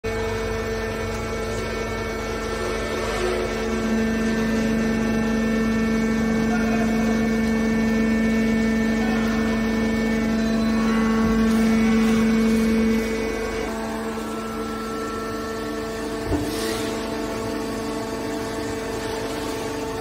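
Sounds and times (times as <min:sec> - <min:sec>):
hydraulic pump motor hum: 0:00.0 - 0:20.0.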